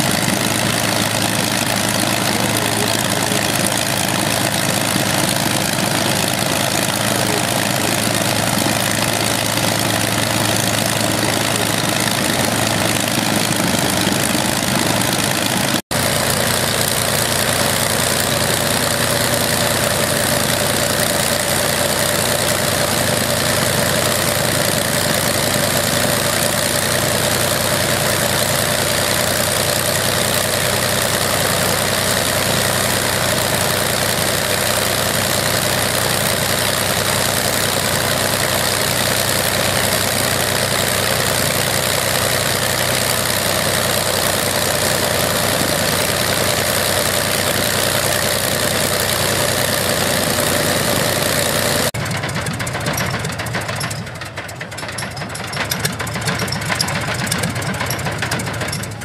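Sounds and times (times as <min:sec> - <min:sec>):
aeroplane piston engine running: 0:00.0 - 0:59.0.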